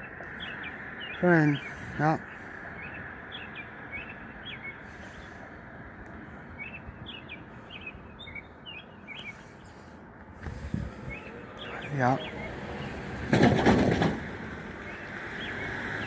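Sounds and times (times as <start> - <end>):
small birds chirping: 0.0 - 13.2, 14.7 - 16.0
steady outdoor hiss: 0.0 - 16.0.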